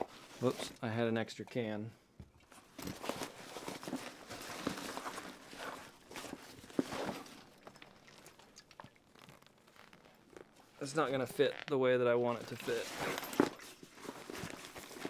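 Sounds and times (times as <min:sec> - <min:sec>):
fabric rustling and scraping: 0:00.0 - 0:00.8, 0:02.5 - 0:11.6, 0:12.3 - 0:15.0.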